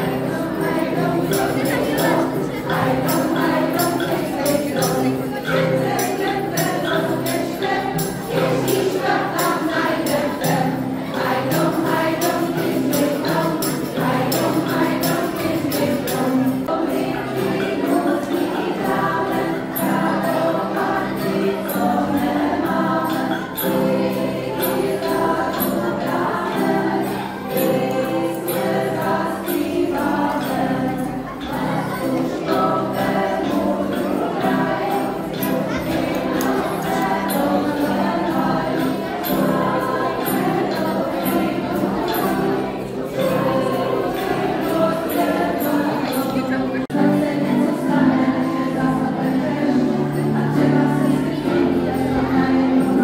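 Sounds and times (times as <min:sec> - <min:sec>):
acoustic guitar: 0:00.0 - 0:53.0
group singing a carol: 0:00.0 - 0:53.0
tambourine shaken: 0:00.0 - 0:53.0.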